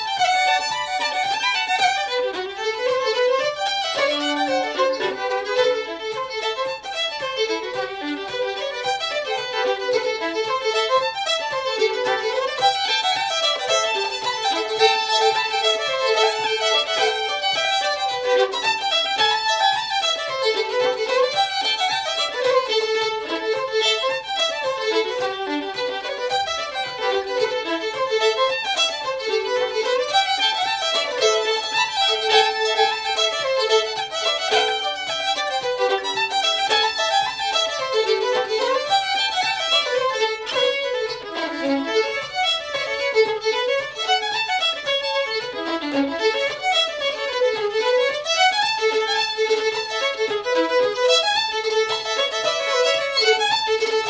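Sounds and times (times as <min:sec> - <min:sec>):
fiddle playing quick notes: 0:00.0 - 0:54.0.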